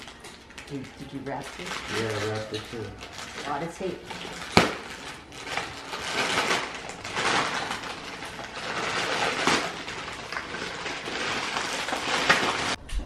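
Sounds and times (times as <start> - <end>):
wrapping paper crinkling and tearing: 0.0 - 12.9.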